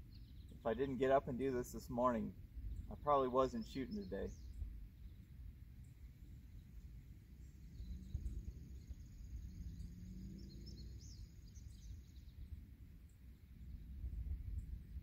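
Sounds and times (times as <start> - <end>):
birds chirping softly: 0.0 - 15.0
low uneven rumble: 0.0 - 15.0.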